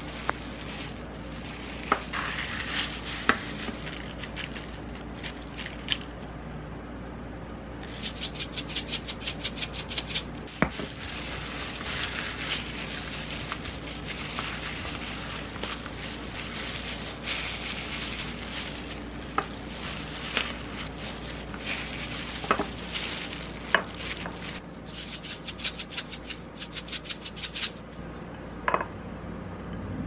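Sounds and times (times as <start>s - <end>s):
gloved hands rustling rice: 0.0s - 6.1s, 7.9s - 27.7s.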